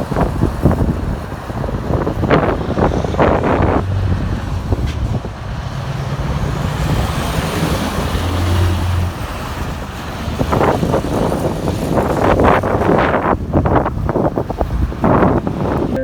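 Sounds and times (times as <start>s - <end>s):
road noise: 0.0s - 16.0s
truck driving by: 0.0s - 16.0s.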